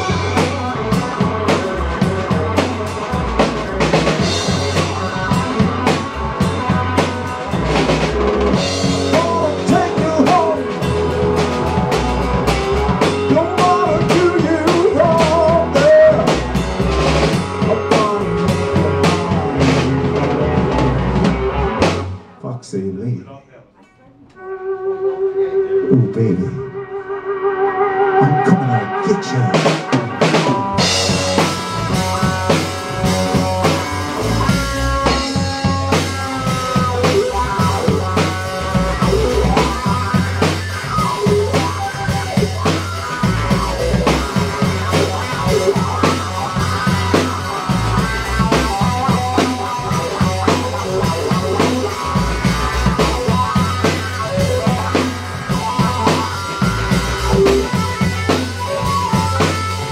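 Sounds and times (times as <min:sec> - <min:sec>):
drum kit steady beat: 0:00.0 - 0:22.2, 0:29.5 - 0:59.9
electric guitar solo with bent notes: 0:00.0 - 0:22.4, 0:24.3 - 0:59.9
bass notes: 0:00.0 - 0:59.9.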